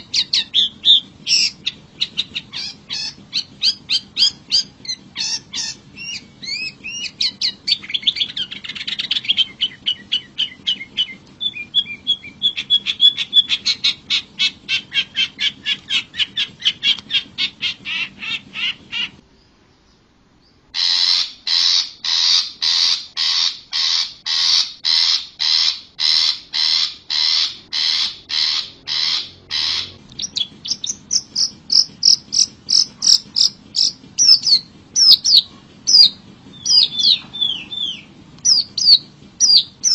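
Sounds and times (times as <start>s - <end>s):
harsh grating bird calls: 0.0s - 19.4s, 20.5s - 39.9s.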